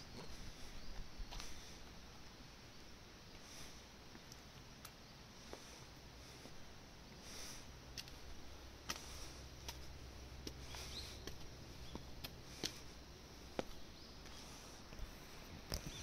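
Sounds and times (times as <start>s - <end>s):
footsteps on stone and concrete: 0.0s - 16.0s
low steady hum: 0.0s - 16.0s.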